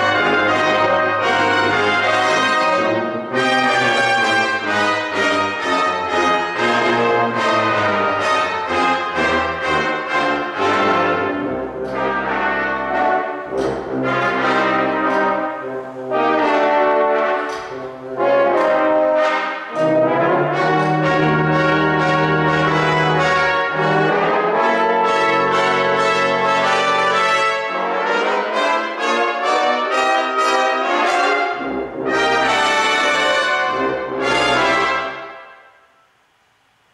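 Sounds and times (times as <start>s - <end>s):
brass ensemble playing jazz: 0.0s - 35.7s.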